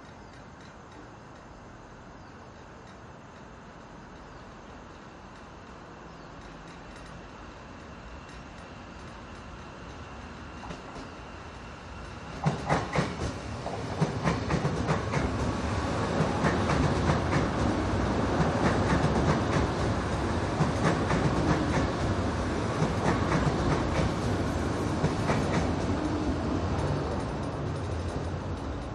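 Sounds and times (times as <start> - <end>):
passing train rumble: 0.0 - 28.9
train wheels clacking over joints: 2.6 - 28.9.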